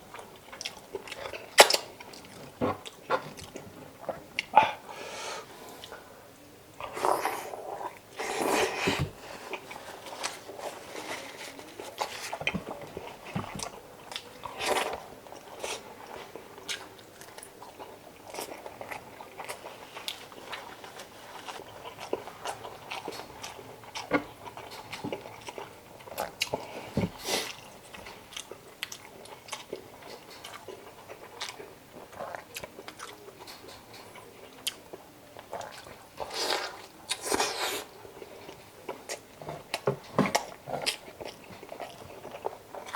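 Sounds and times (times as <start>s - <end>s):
person chewing food: 0.0s - 6.1s, 6.8s - 42.9s.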